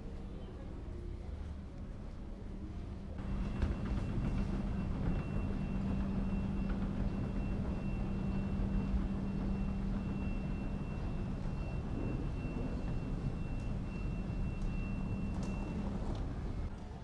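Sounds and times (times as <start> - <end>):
escalator hum and rumble: 0.0 - 17.0.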